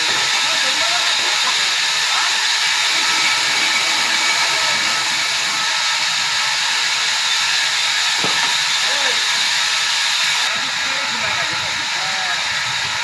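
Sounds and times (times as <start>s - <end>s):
sawmill machinery hissing: 0.0s - 13.0s.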